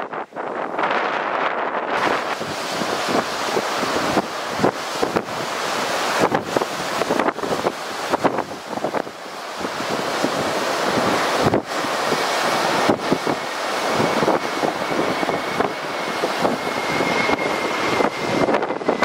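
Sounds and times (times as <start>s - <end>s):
distant jet engine whine: 0.0s - 19.0s
wind buffeting microphone: 0.0s - 19.0s.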